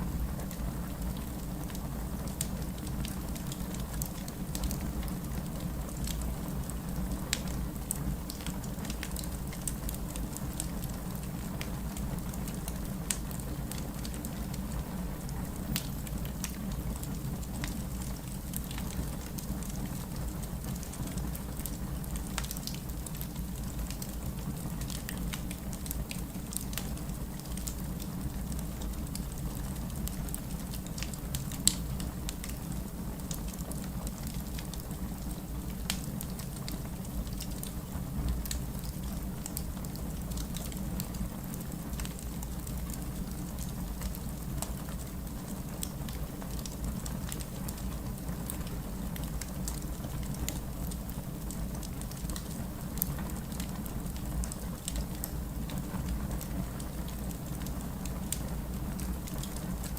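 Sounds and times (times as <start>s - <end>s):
fireplace crackling and popping: 0.1s - 59.9s.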